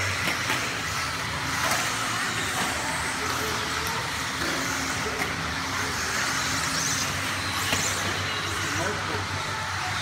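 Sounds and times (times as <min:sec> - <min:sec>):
rc buggies racing on dirt: 0:00.0 - 0:10.0.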